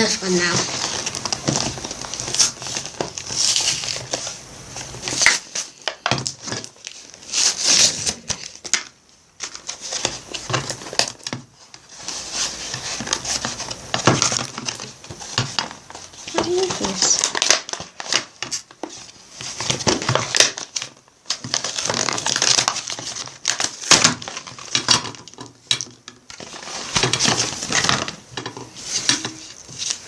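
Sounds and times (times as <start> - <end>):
packaging crinkling and ripping: 0.0 - 30.0.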